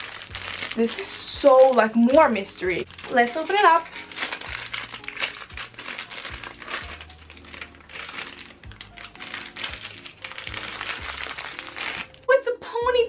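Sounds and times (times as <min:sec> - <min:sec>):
toy packet crinkling and tearing: 0:00.0 - 0:12.3.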